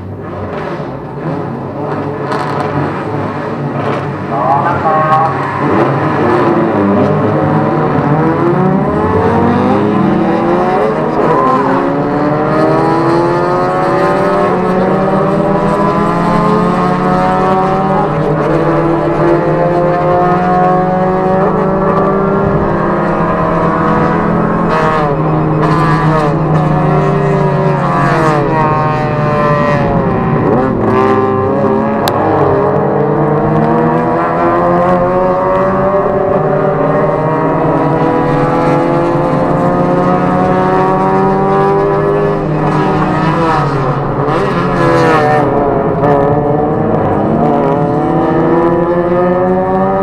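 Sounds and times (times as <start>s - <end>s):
car engine droning: 0.0s - 50.0s.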